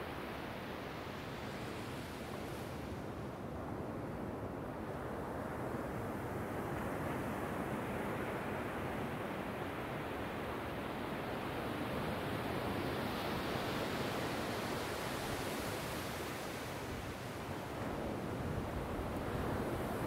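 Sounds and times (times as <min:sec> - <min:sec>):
waves washing up a beach: 0:00.0 - 0:20.0.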